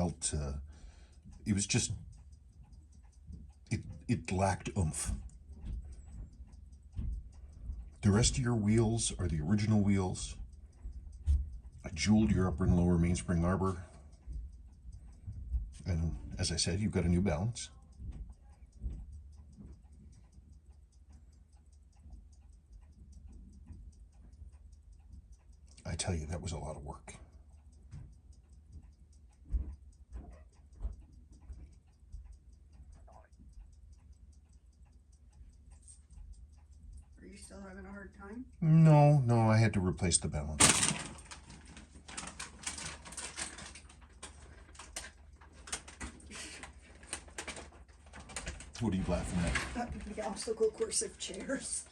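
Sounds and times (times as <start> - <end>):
light irregular clicking: 0.0 - 51.9
low steady hum: 0.0 - 51.9
watch ticking: 0.0 - 51.9.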